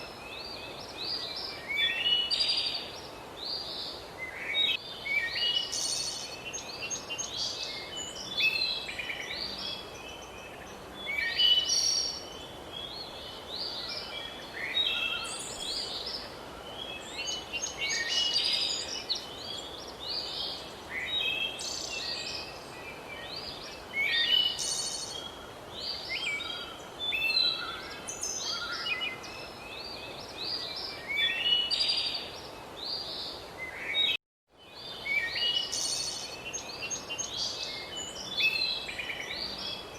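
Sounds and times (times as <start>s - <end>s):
outdoor background hiss: 0.0s - 39.9s
songbirds chirping and singing: 0.0s - 39.9s.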